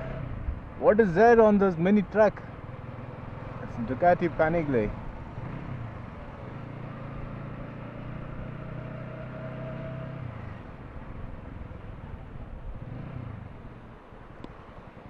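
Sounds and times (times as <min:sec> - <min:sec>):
motorcycle engine hum: 0:00.0 - 0:15.0
road noise: 0:00.0 - 0:15.0.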